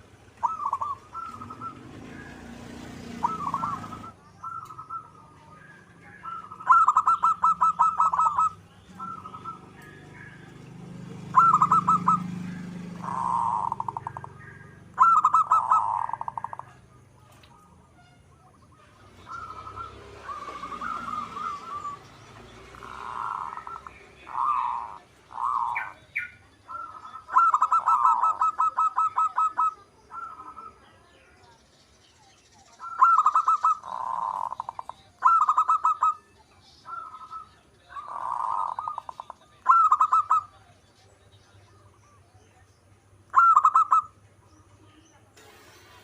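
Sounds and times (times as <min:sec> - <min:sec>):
dove cooing: 0:00.0 - 0:17.8, 0:18.4 - 0:31.0, 0:32.8 - 0:36.3, 0:36.9 - 0:40.7, 0:43.3 - 0:44.2.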